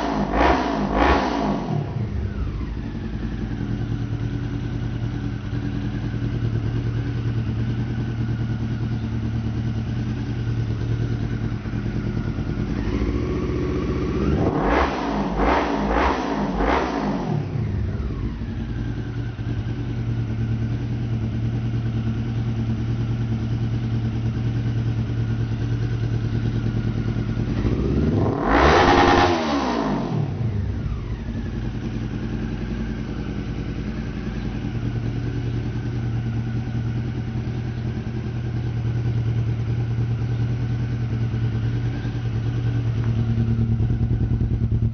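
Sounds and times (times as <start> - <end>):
motorcycle engine idling and revving: 0.0 - 44.9.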